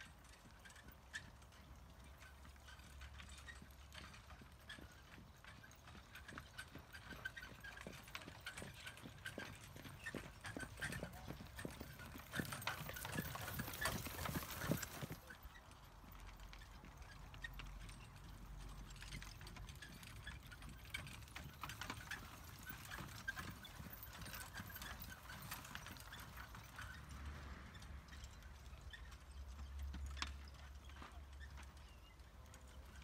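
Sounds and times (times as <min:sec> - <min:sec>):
horse hooves trotting on grass: 0:00.0 - 0:33.0.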